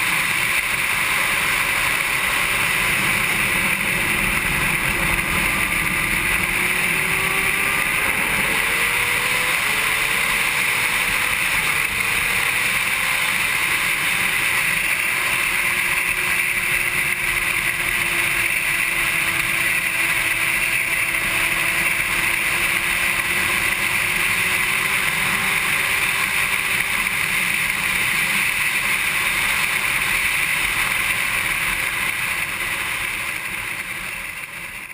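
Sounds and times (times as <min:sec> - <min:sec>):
wind rush: 0:00.0 - 0:28.5.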